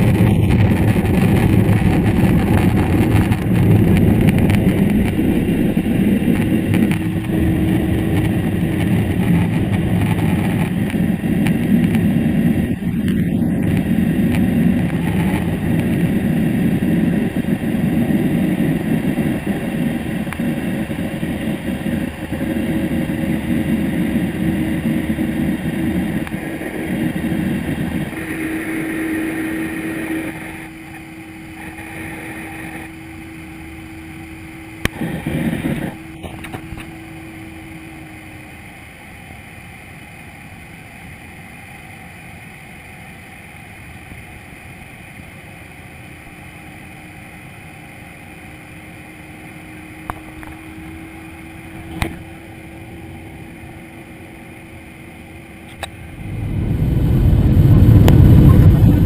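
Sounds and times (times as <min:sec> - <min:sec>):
jet engine and airflow rushing: 0:00.0 - 0:59.0
steady hum: 0:00.0 - 0:59.0.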